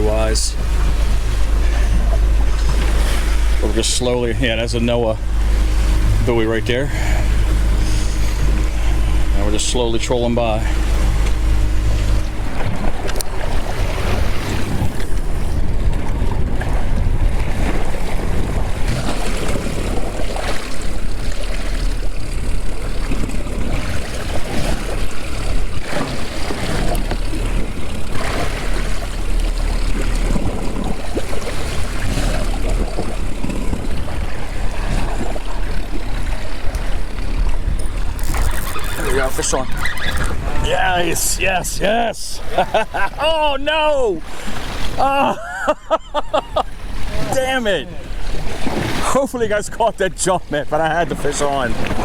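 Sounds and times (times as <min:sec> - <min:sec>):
boat motor low rumble: 0:00.0 - 0:52.0
water noise: 0:00.0 - 0:52.0
wind: 0:00.0 - 0:52.0.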